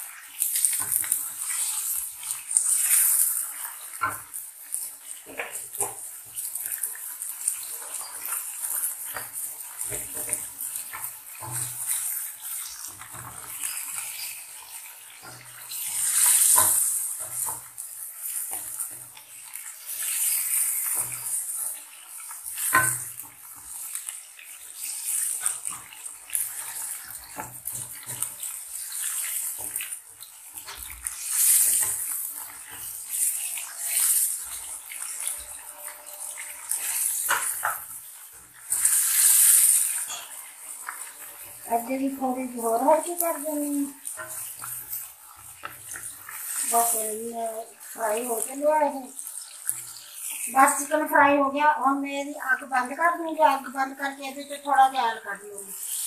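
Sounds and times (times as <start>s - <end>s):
chicken sizzling in oil: 0.0s - 56.0s
wooden spatula scraping pan: 0.5s - 51.4s.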